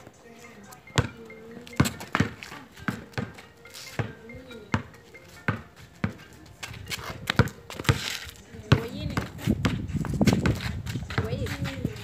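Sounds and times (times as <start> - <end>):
basketball bouncing on hard ground: 0.7 - 12.0.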